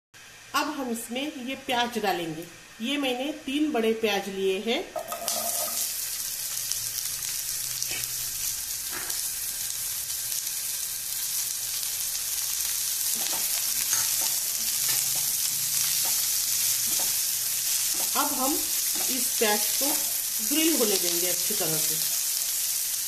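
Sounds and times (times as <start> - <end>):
onions sizzling in hot oil: 4.4 - 23.0.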